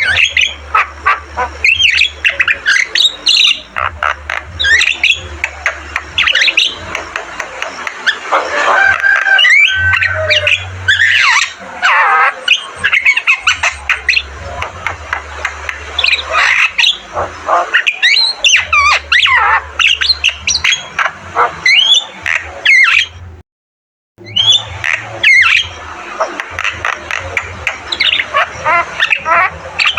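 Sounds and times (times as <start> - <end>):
myna squawking and whistling: 0.0 - 23.2, 24.2 - 29.9.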